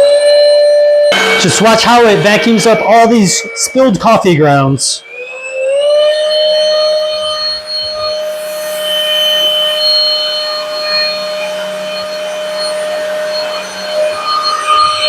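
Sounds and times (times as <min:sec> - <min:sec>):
vacuum motor whining: 0:01.1 - 0:15.0.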